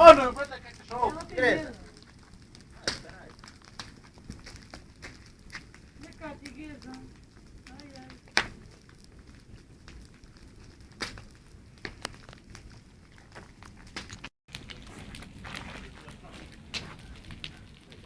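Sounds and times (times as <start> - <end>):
bonfire crackling: 0.0 - 18.0
fire popping: 0.0 - 18.0.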